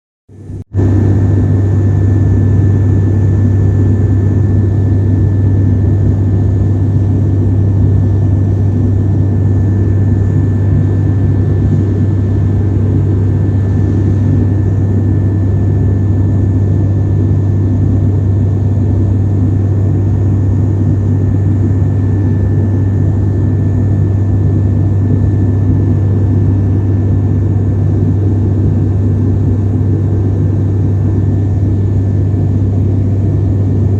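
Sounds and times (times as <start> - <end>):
airplane cabin engine drone: 0.3 - 33.9.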